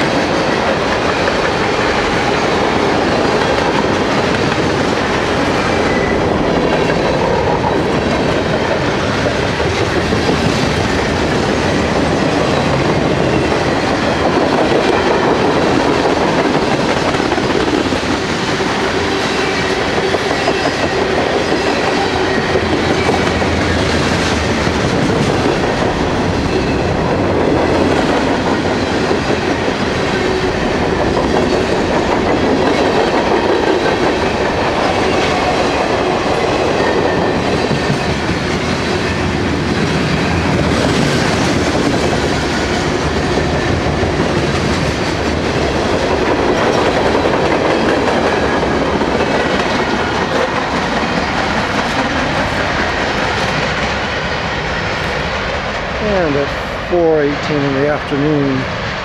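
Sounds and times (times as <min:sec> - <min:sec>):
freight train wheels clacking on rails: 0:00.0 - 0:59.0.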